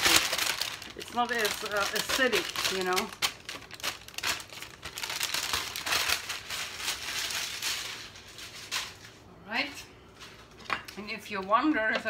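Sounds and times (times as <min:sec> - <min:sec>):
baking paper crinkling: 0:00.0 - 0:11.1.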